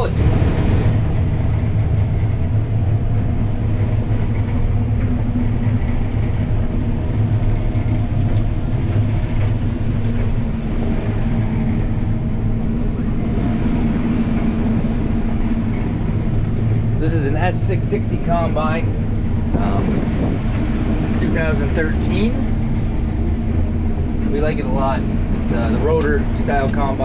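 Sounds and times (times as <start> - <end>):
combine harvester droning: 0.0 - 27.0.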